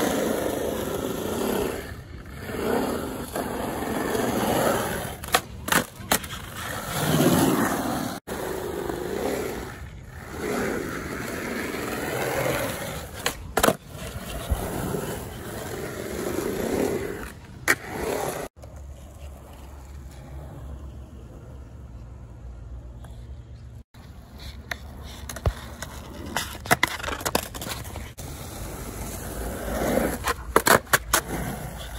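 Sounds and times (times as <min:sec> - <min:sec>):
skateboard wheels rolling on concrete: 0:00.0 - 0:31.9.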